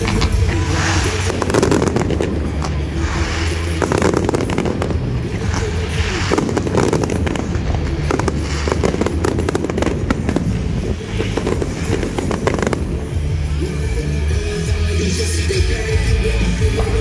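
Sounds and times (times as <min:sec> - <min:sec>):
fireworks bangs: 0:00.0 - 0:13.9
fireworks crackling and popping: 0:00.0 - 0:17.0.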